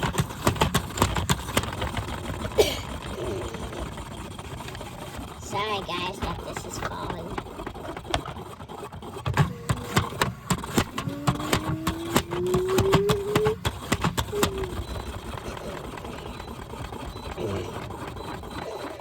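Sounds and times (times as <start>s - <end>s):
sharp knocks and rattles: 0.0s - 18.7s
washing machine motor whine: 0.0s - 19.0s.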